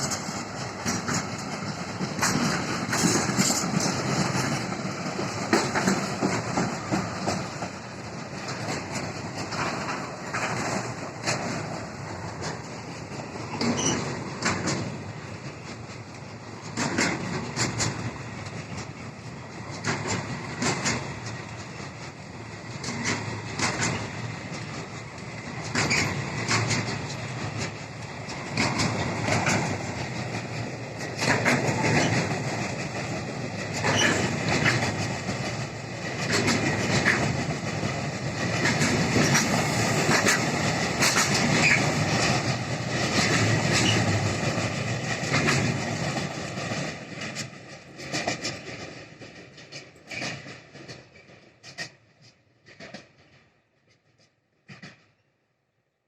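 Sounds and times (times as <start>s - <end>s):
wheels clicking over rail joints: 0.0s - 55.2s
freight train rumble: 0.0s - 55.4s.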